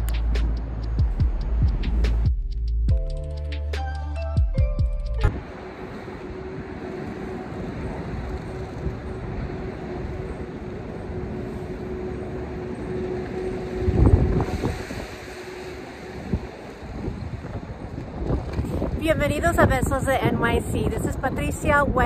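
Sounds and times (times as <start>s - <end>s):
city street traffic rumble: 0.0s - 2.9s, 5.2s - 22.0s.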